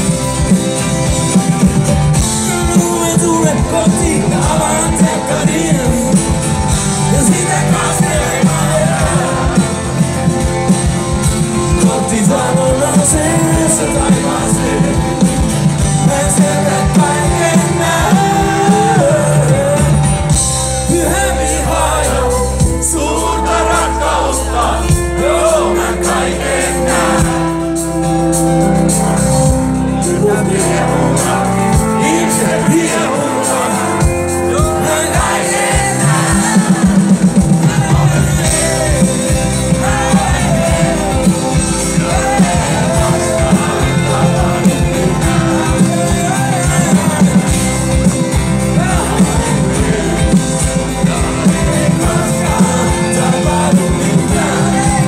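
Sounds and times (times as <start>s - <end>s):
live rock band through pa: 0.0s - 55.0s
man singing: 2.4s - 27.8s, 30.0s - 55.0s.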